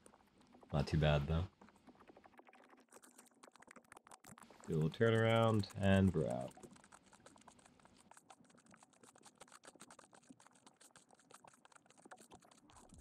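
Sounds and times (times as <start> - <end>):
wavelets lapping against board: 0.0 - 13.0.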